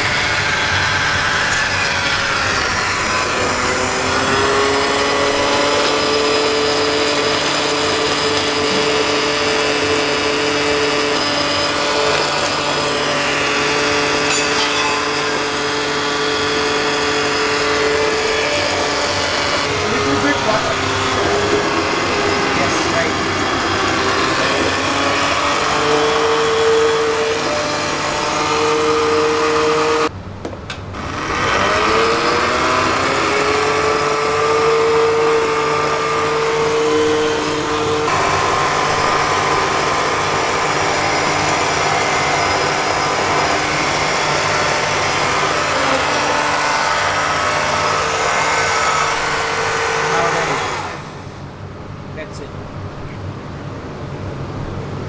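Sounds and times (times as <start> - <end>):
stick blender motor whine: 0.0 - 30.1, 30.9 - 51.5.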